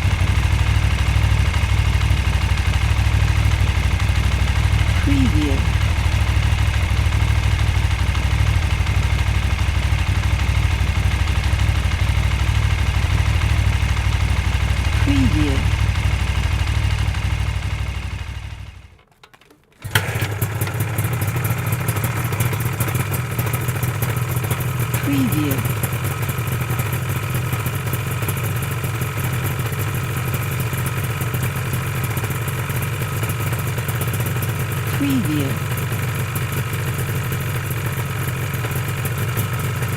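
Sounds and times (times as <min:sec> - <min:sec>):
motorcycle engine idling: 0:00.0 - 0:18.9, 0:20.0 - 0:39.9.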